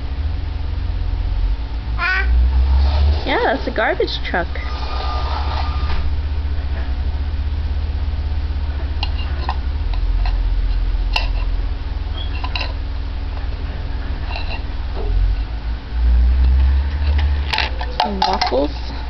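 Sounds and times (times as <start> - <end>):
garbage truck engine rumbling: 0.0 - 19.0.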